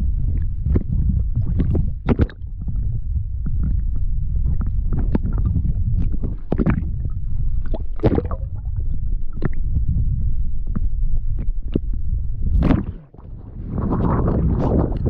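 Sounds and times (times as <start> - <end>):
muffled underwater water rumble: 0.0 - 15.0.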